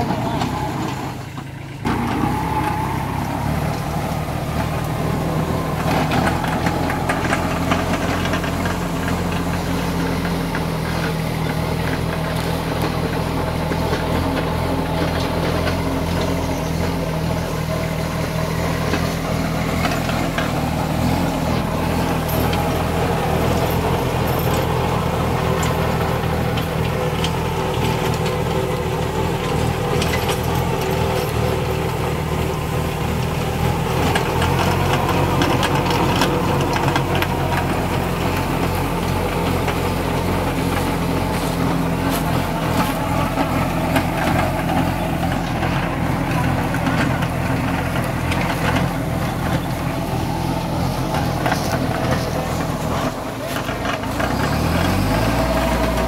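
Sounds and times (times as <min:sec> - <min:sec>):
rotavator blades churning soil: 0:00.0 - 0:56.0
tractor diesel engine running: 0:00.0 - 0:56.0.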